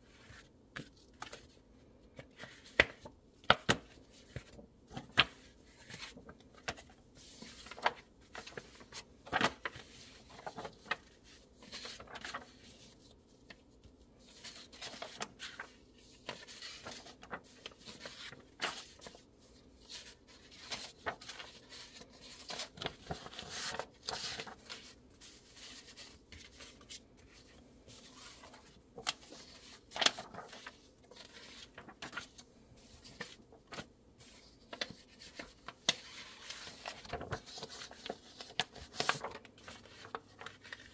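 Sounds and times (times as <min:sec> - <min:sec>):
paper rustling: 0:02.2 - 0:40.9.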